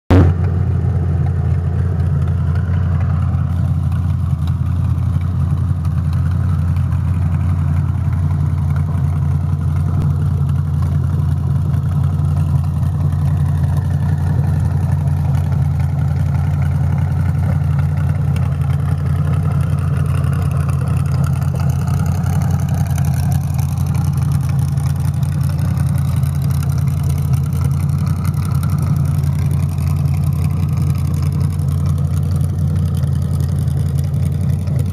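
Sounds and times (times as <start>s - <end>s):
unmuffled car engine idling: 0.1s - 34.9s.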